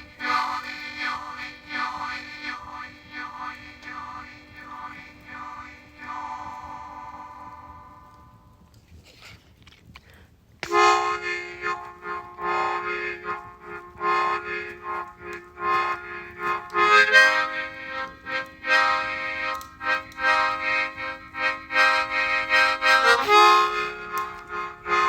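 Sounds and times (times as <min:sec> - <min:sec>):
harmonica playing chords: 0:00.0 - 0:08.6, 0:10.6 - 0:25.0.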